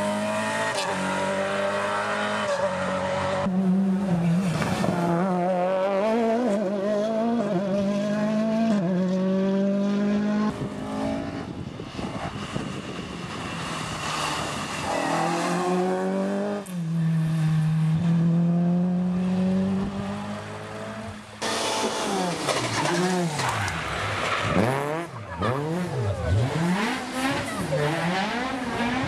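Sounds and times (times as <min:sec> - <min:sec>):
rally car engines at high revs: 0:00.0 - 0:29.0.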